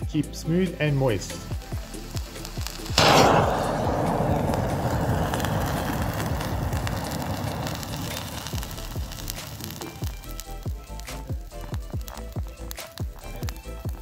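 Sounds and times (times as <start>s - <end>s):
crackling fire: 0.7s - 14.0s
chemical reaction hissing: 1.4s - 14.0s.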